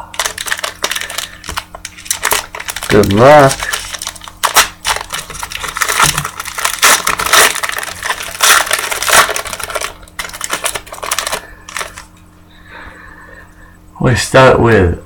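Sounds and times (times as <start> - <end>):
card wrappers tearing and crinkling: 0.0 - 12.1.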